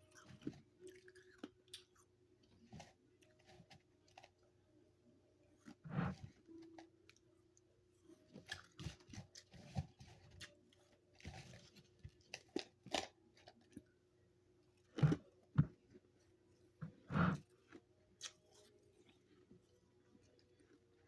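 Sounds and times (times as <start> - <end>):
person chewing frost: 0.0 - 4.5, 5.5 - 13.9, 14.6 - 21.0.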